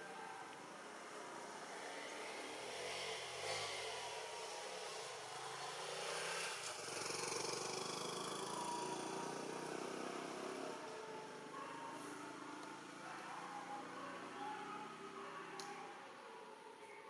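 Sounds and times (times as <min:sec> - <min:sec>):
background noise: 0:00.0 - 0:17.0.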